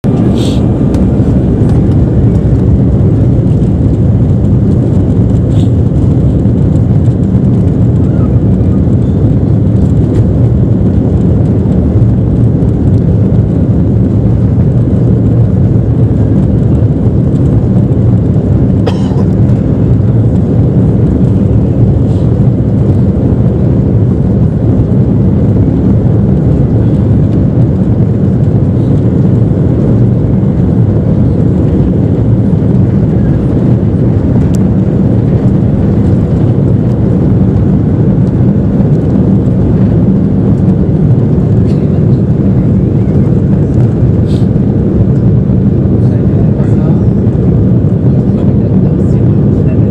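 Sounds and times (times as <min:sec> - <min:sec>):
jet engines and rushing air: 0:00.0 - 0:49.9.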